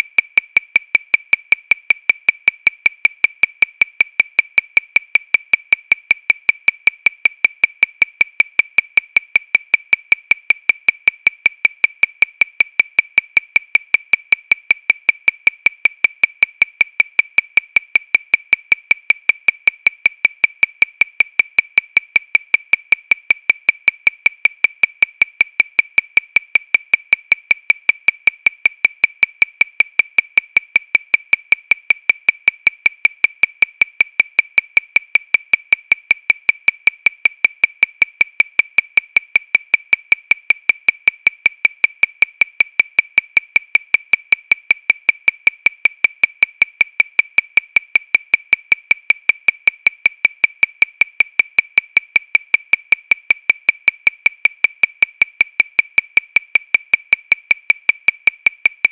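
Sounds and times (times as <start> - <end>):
metronome clicking: 0.0 - 58.9.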